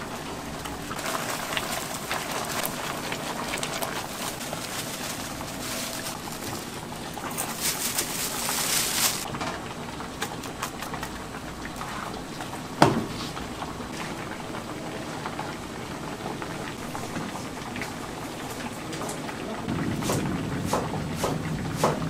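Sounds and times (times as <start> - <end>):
porridge bubbling in pot: 0.0 - 22.0.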